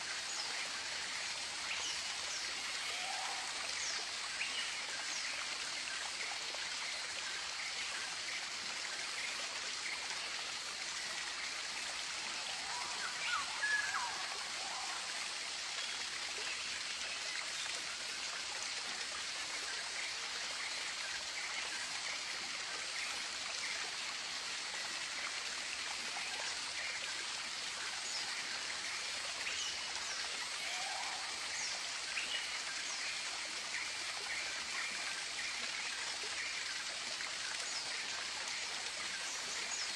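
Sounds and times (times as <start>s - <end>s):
steady forest hiss: 0.0s - 39.9s.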